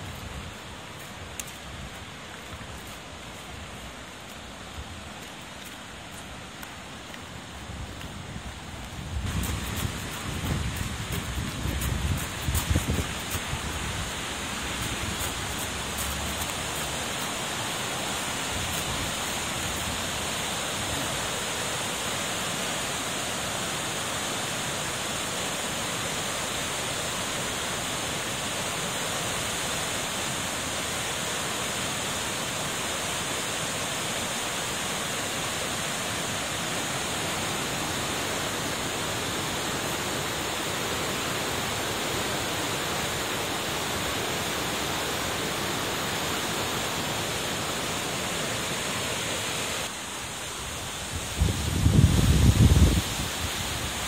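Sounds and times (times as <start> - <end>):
floodwater rushing and churning: 0.0 - 51.4.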